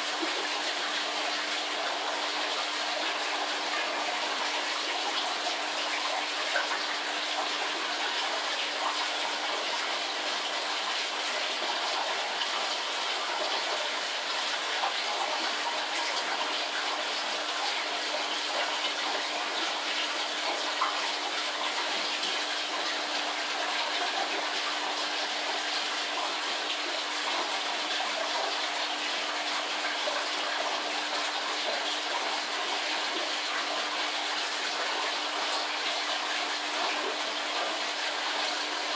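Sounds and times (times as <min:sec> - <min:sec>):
aquarium water bubbling: 0:00.0 - 0:38.9.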